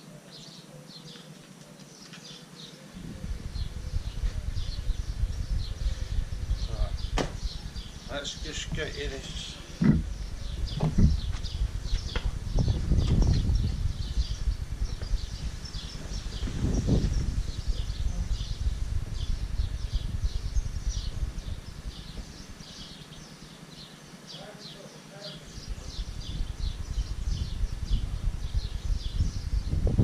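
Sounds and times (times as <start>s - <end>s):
bird chirping: 0.0s - 29.9s
low rumble on microphone: 2.9s - 23.4s, 25.4s - 30.0s.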